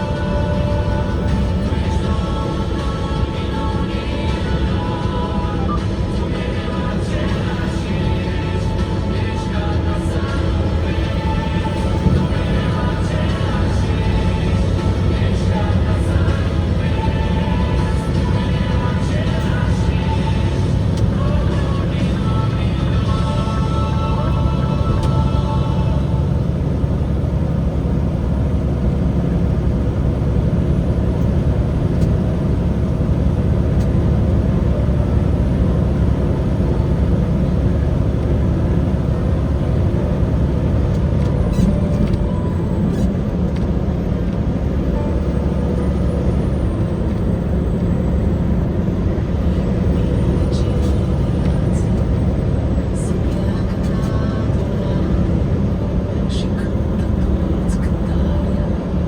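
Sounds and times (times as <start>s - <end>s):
truck engine and tyre rumble: 0.0s - 59.0s.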